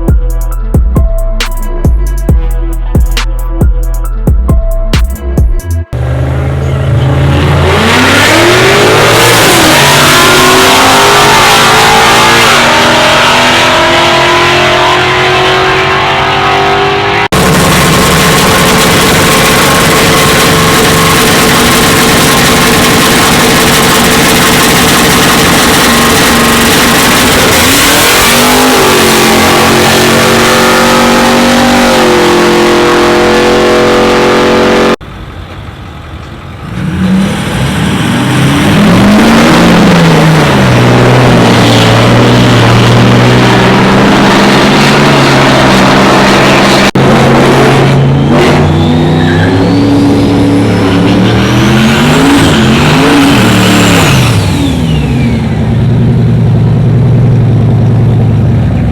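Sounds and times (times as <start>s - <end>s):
vehicle engines revving: 5.9s - 58.9s.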